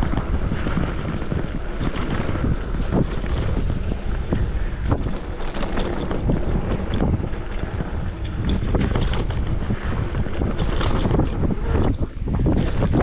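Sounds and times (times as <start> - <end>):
bike knocks and rattles: 0.0 - 13.0
bike tyres rumbling: 0.0 - 13.0
wind buffeting microphone: 0.0 - 13.0.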